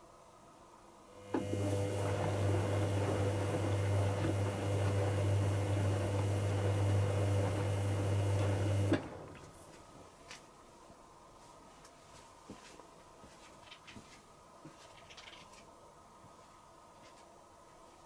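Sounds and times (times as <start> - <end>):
low mains hum: 0.0 - 18.0.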